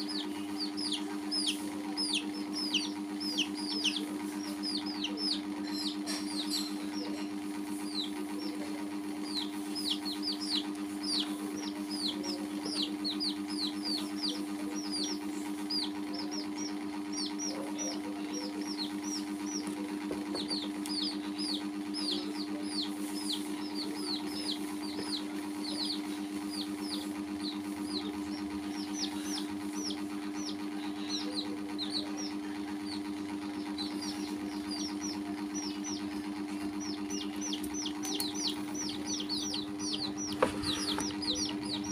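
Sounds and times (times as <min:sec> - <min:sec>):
baby chicks peeping: 0:00.0 - 0:41.9
low machine-like hum: 0:00.0 - 0:41.9.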